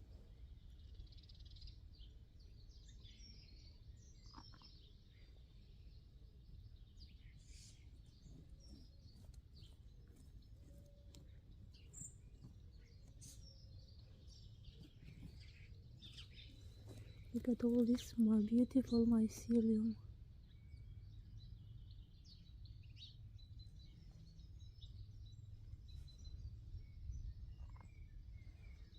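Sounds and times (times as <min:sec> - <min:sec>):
low steady background rumble: 0:00.0 - 0:28.9
small birds chirping and trilling: 0:00.0 - 0:28.9.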